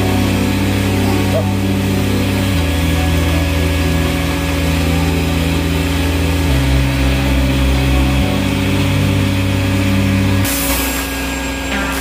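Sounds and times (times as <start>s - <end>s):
shop vacuum sucking water: 0.0s - 12.0s.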